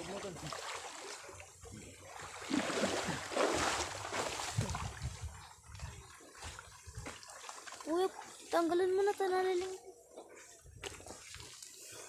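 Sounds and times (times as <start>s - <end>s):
river water sloshing and splashing: 0.0s - 12.0s.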